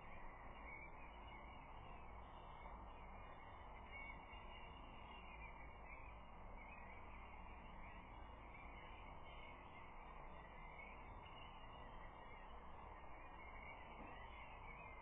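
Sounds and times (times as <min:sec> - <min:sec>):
distant bird calls: 0:00.0 - 0:15.0.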